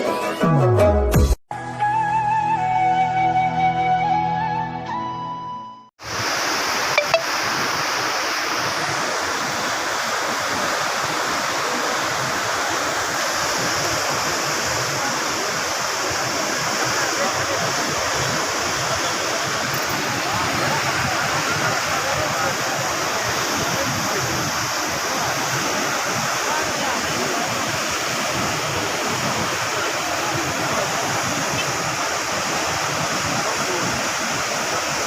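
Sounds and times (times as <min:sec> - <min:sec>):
water rushing: 0:06.0 - 0:35.0.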